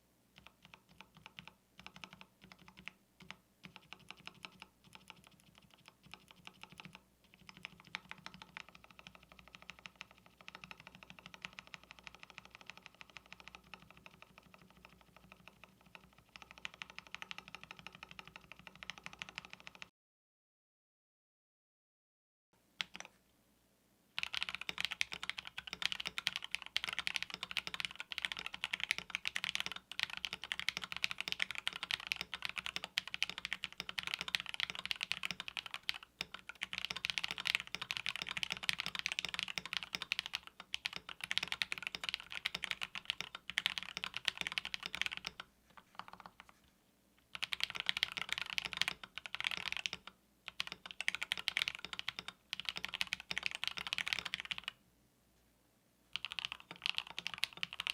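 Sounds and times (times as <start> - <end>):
fast mechanical keyboard typing: 0.4 - 19.9, 24.2 - 46.6, 47.3 - 54.8, 56.1 - 57.9.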